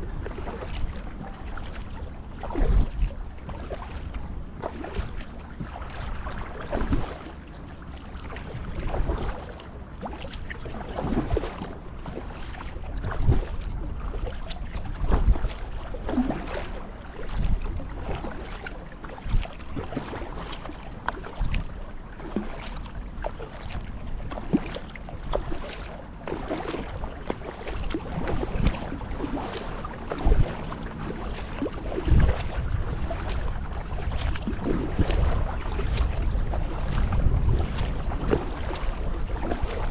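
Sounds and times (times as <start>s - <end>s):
kayak paddle splashing in water: 0.0s - 39.9s
wind rumbling on microphone: 0.0s - 39.9s.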